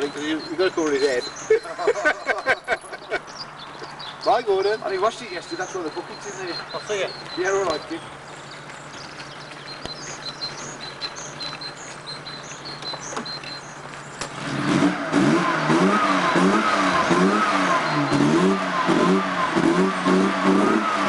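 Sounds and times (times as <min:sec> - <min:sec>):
birds chirping: 0:00.0 - 0:21.0
car engine revving: 0:03.6 - 0:21.0.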